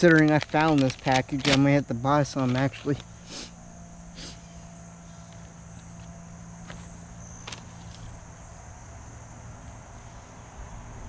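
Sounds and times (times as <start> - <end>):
insects chorus: 0.0 - 11.0
low steady hum: 0.0 - 11.0.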